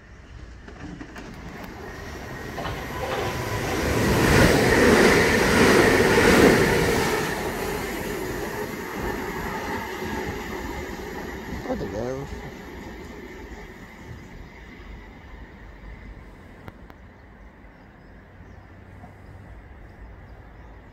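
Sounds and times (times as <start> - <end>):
train wheels rushing on rail: 0.0 - 17.6.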